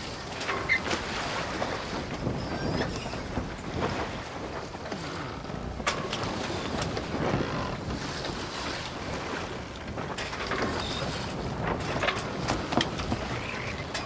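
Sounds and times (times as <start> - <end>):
boat running on water: 0.0 - 14.0
wind buffeting microphone: 0.0 - 14.0.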